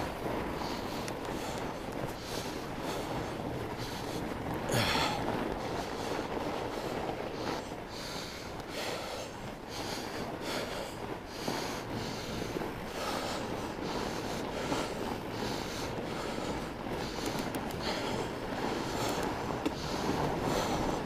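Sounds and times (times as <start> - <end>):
bike tyres rolling on snow: 0.0 - 21.0
rider breathing: 0.0 - 21.0
wind noise: 0.0 - 21.0.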